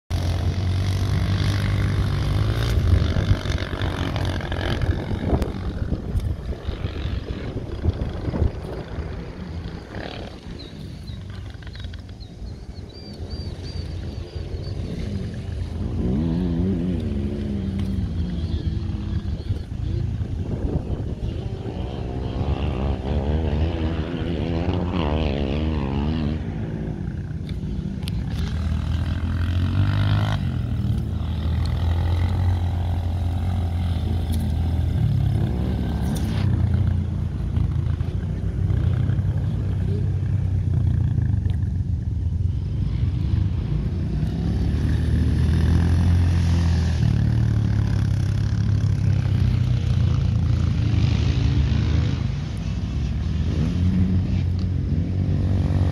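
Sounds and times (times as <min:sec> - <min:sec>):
dirt bike engine revving: 0:00.1 - 0:12.0, 0:13.0 - 0:55.9.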